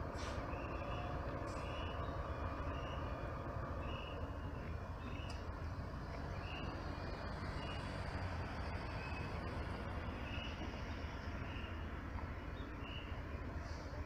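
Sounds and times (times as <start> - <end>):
coach diesel engines running: 0.0 - 14.0.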